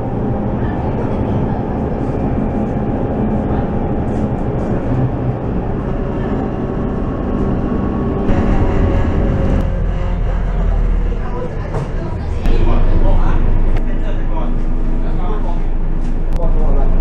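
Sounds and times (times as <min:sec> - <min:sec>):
diesel bus engine running: 0:00.0 - 0:17.0
road and tyre noise: 0:00.0 - 0:17.0.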